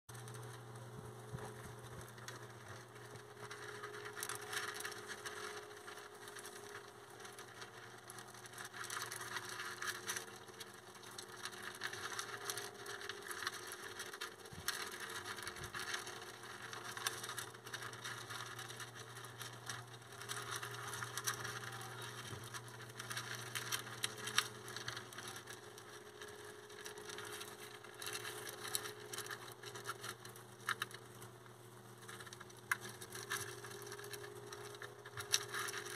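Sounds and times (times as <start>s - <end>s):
hamsters crunching food: 0.1s - 35.9s.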